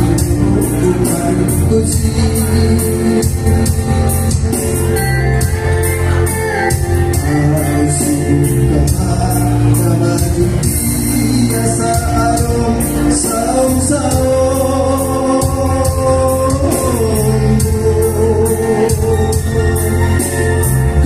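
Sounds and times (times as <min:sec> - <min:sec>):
keyboard accompaniment: 0:00.0 - 0:21.0
man singing into microphone: 0:00.0 - 0:21.0.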